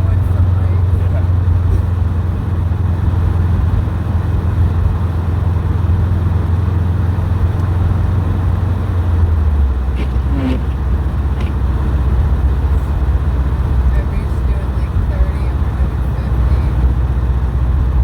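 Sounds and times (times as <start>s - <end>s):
car engine drone: 0.0s - 18.0s
tyres on road: 0.0s - 18.0s.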